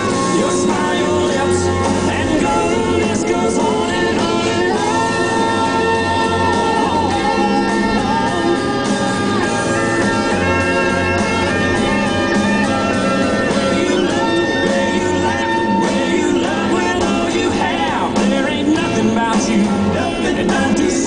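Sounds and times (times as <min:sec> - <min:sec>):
rock song with singing: 0:00.0 - 0:21.0.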